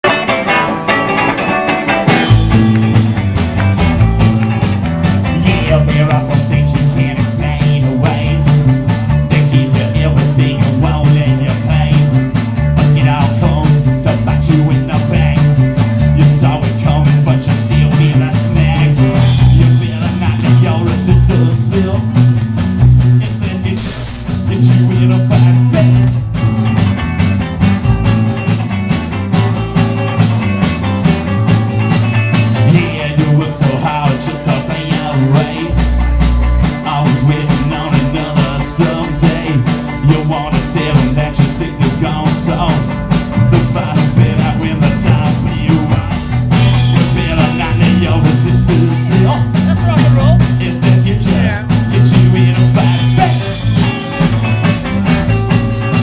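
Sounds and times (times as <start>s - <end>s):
bass guitar: 0.0s - 56.0s
drum kit beat: 0.0s - 56.0s
electric guitar: 0.0s - 56.0s.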